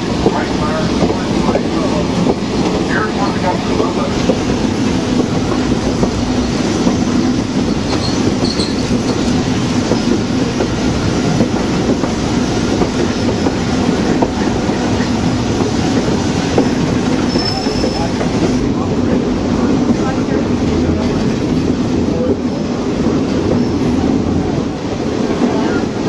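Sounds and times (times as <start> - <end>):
train car rumbling on rails: 0.0 - 26.0.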